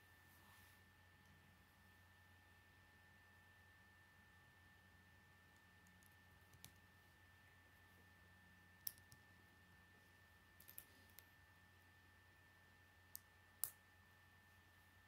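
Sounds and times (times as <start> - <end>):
faint hum with high tone: 0.0 - 15.0.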